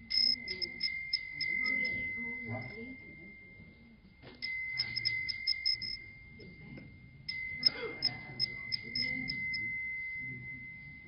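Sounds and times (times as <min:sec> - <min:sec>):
hand bell ringing: 0:00.0 - 0:03.8, 0:04.4 - 0:06.6, 0:07.3 - 0:11.0.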